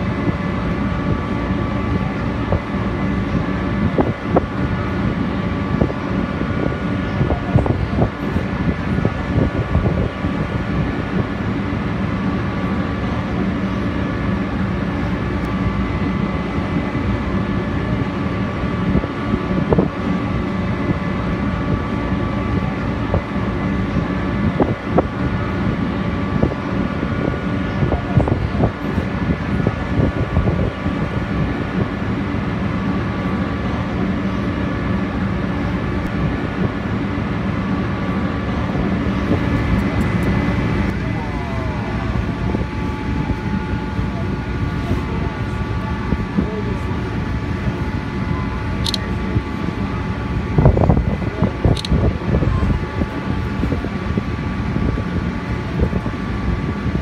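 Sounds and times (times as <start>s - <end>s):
ferry engines droning: 0.0s - 57.0s
high steady whines: 0.0s - 57.0s.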